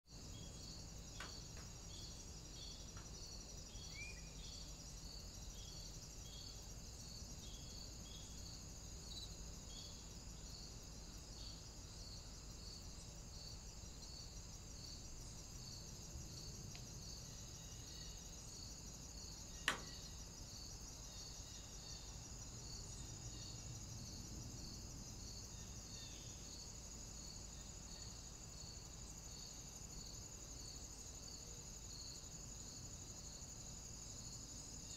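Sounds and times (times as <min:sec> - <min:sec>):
insects chirring: 0:00.1 - 0:34.9.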